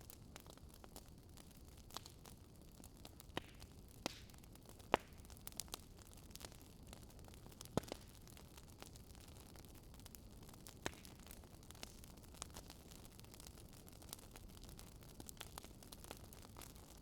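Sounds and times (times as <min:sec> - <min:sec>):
wood fire crackling faintly: 0:00.0 - 0:17.0.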